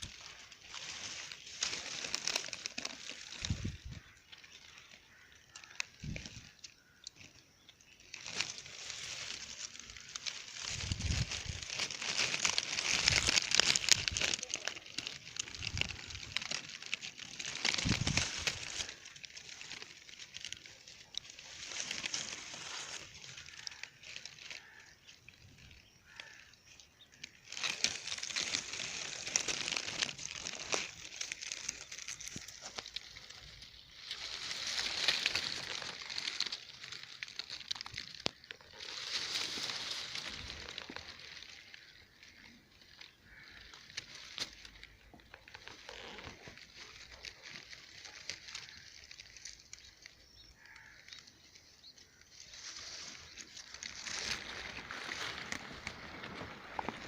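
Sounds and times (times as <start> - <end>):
crackly dry rustling: 0.0 - 57.0.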